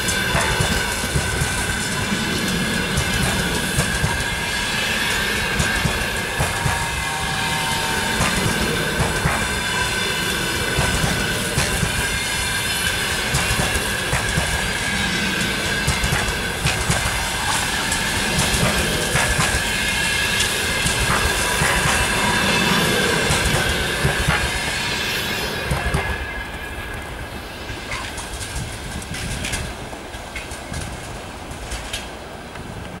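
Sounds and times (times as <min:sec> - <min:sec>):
high wheel squeal: 0:00.0 - 0:28.2
train wheels clacking over rail joints: 0:00.0 - 0:33.0.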